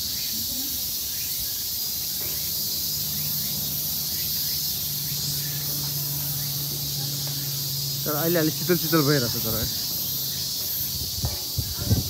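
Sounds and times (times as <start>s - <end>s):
insects chorus: 0.0s - 12.0s
low steady hum: 2.0s - 12.0s.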